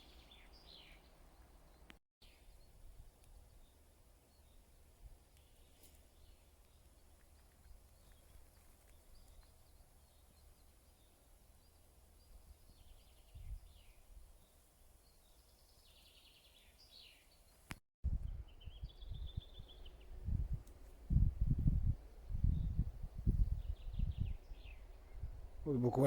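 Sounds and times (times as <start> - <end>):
faint songbirds chirping: 0.0 - 26.0.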